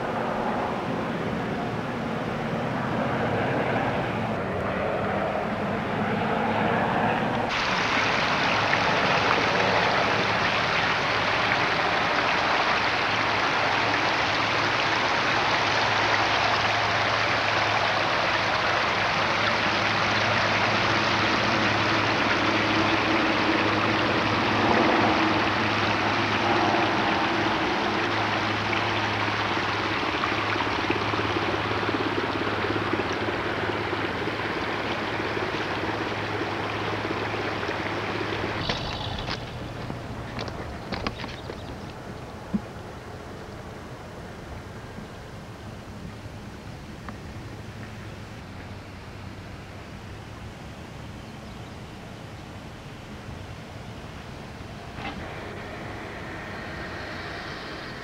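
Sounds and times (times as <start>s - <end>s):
floodwater rushing: 0.0s - 50.5s, 52.6s - 58.0s
low steady hum: 0.0s - 58.0s.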